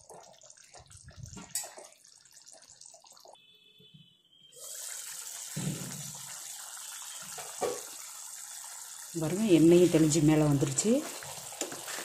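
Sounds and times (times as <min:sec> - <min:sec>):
gravy bubbling in frying pan: 0:00.0 - 0:03.4, 0:04.7 - 0:12.0.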